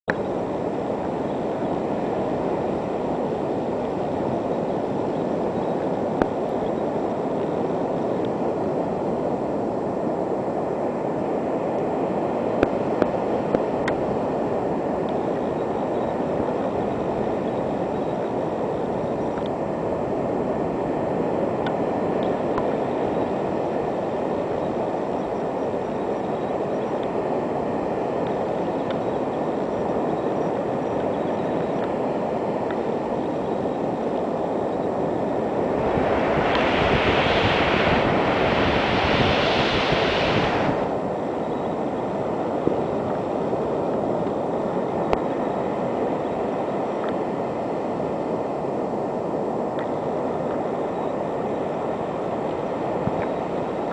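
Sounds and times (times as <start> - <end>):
ocean surf on beach: 0.1 - 53.9.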